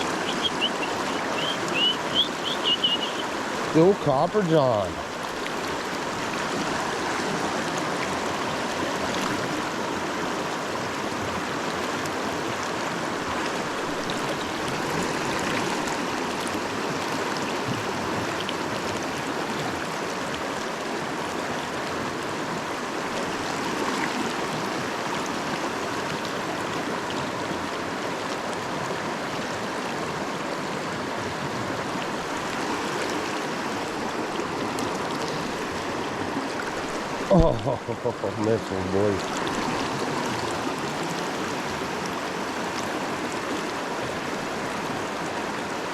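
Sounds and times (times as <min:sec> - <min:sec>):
creek water running over riffles: 0:00.0 - 0:45.9.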